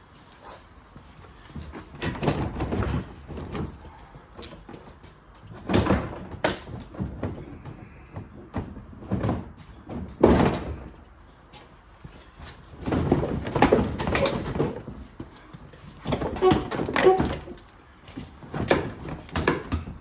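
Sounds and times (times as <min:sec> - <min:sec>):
plastic bumper clunks and creaks: 0:01.4 - 0:11.1, 0:12.2 - 0:20.0.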